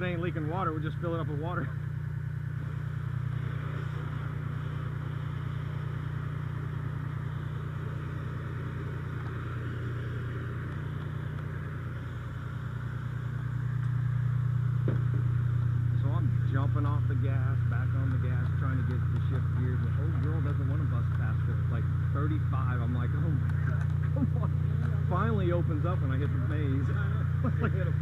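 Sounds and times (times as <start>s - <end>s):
pump motor humming: 0.0s - 28.0s.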